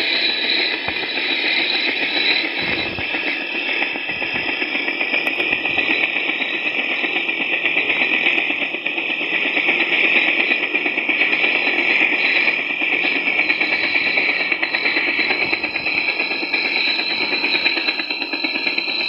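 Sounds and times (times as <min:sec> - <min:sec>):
helicopter sound through small speaker: 0:02.4 - 0:19.0.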